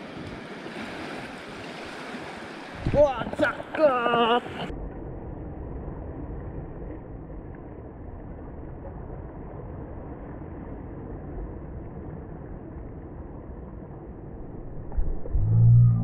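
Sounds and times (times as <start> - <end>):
muffled surf breaking on reef: 0.0 - 16.0
wind rumble on microphone: 2.6 - 16.0.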